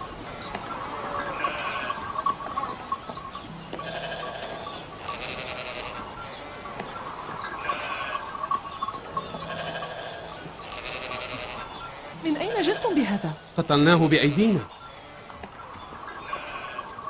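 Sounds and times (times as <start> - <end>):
sheep and goats bleating: 0.0 - 17.0.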